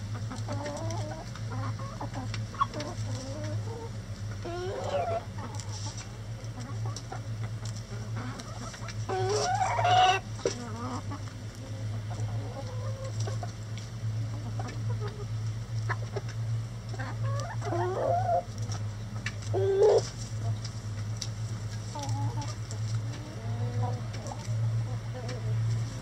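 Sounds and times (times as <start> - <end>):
chickens clucking: 0.0 - 26.0
steady low hum: 0.0 - 26.0.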